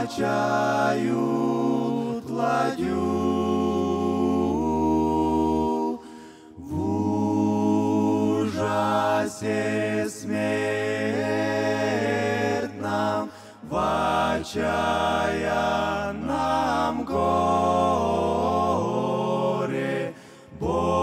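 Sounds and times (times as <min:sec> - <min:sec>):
male choir singing hymn: 0:00.0 - 0:21.0.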